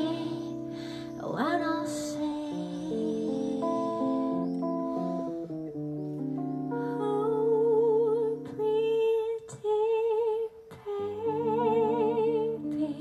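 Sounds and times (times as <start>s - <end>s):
woman singing wordless notes: 0.0s - 5.5s, 6.3s - 13.0s
jazz guitar chords: 0.0s - 9.6s, 11.0s - 13.0s.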